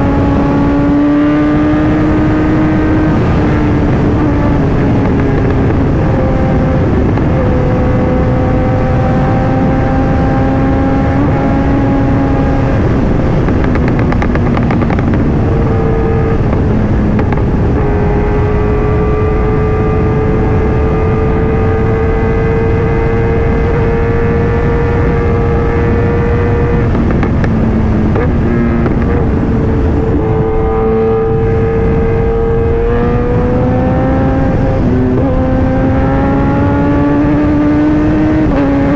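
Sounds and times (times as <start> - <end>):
motorcycle engine cruising: 0.0 - 38.9
wind rumble on microphone: 0.0 - 38.9.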